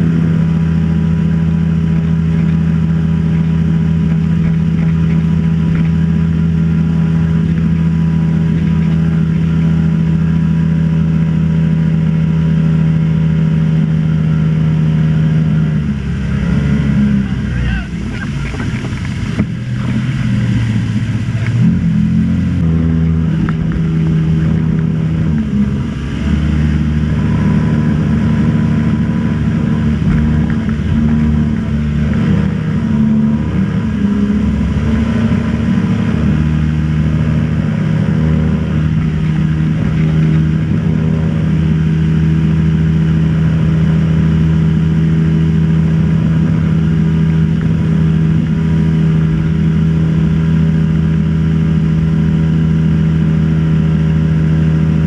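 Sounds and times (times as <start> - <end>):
motorboat engine running: 0.0 - 55.0.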